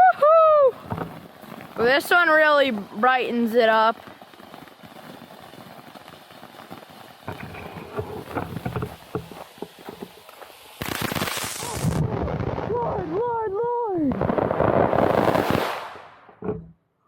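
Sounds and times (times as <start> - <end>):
loud firework crackle burst: 0.0 - 16.5
firework crackling pops: 0.0 - 16.6.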